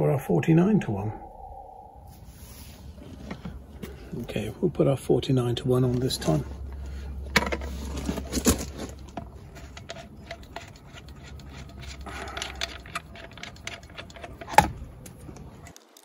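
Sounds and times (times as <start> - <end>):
low steady rumble: 0.0 - 15.7.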